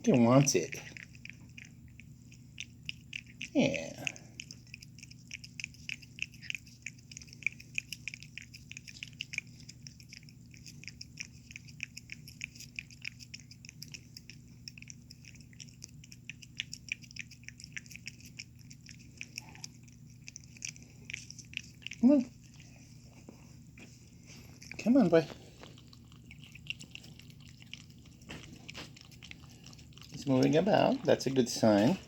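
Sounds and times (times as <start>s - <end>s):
pet licking and chewing: 0.0s - 32.0s.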